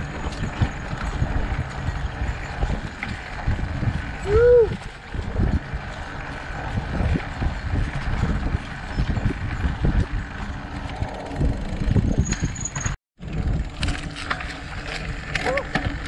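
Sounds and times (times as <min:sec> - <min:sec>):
bike rattling over bumps: 0:00.0 - 0:16.0
tyres rolling over dirt trail: 0:00.0 - 0:16.0
wind rumble on microphone: 0:00.0 - 0:16.0.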